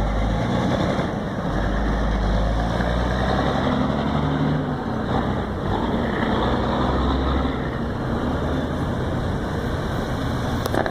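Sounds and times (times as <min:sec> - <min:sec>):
truck diesel engine running loud: 0:00.0 - 0:10.9.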